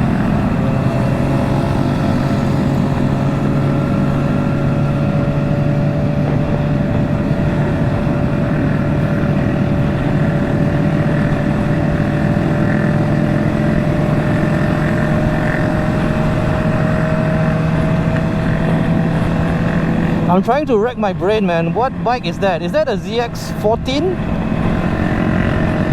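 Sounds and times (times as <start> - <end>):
motorcycle engine cruising: 0.0 - 25.9
wind and road noise: 0.0 - 25.9.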